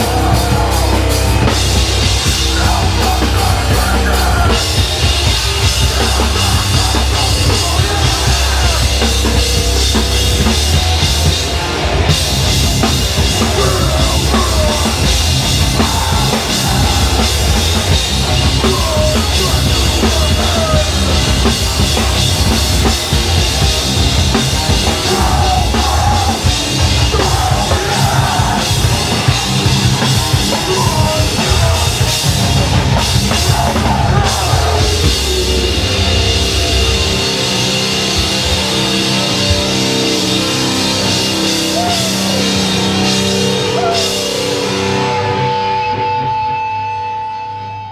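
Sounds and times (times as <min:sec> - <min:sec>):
bass drum: 0:00.0 - 0:40.1
electric guitars: 0:00.0 - 0:47.9
live rock band playing: 0:00.0 - 0:47.9.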